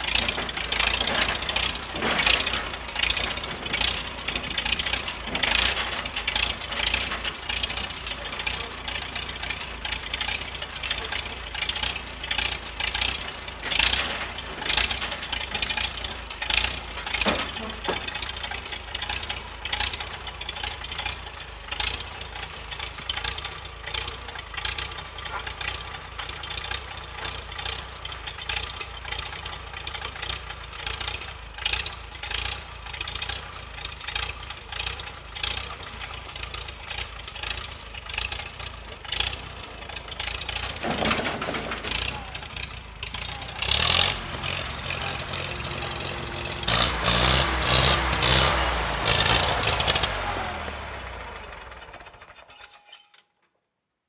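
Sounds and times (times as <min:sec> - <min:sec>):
tractor engine running: 0:00.0 - 0:52.8.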